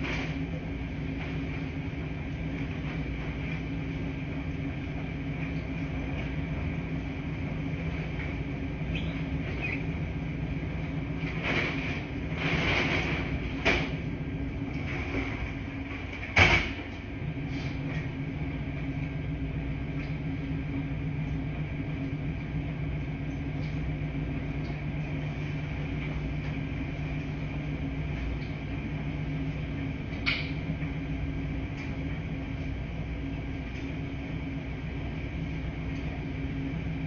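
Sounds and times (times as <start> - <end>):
washing machines humming: 0.0 - 37.0.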